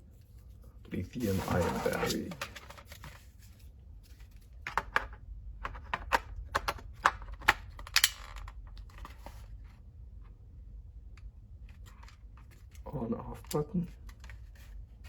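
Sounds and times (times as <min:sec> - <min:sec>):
quiet handling noise: 0:00.1 - 0:15.0.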